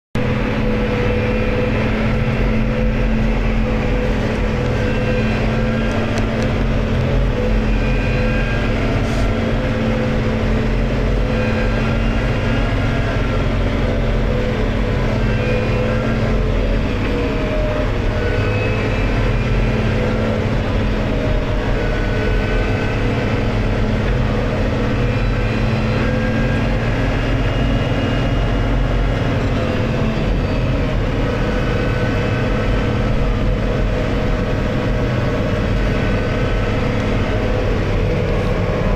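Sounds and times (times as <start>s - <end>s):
tractor diesel engine drone: 0.1s - 38.9s
faint higher whines: 0.2s - 38.9s.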